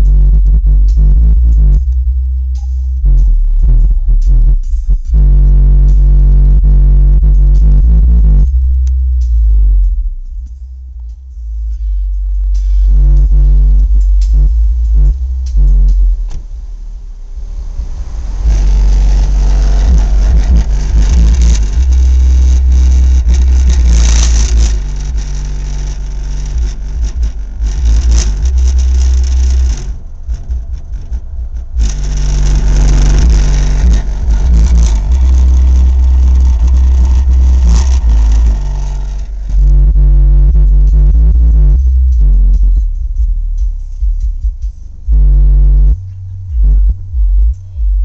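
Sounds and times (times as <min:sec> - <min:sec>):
deep distorted subwoofer bass: 0:00.0 - 0:48.0.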